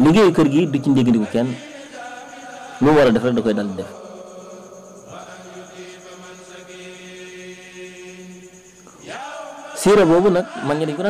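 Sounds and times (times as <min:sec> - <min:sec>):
narration: 0:00.0 - 0:08.2, 0:09.0 - 0:11.0.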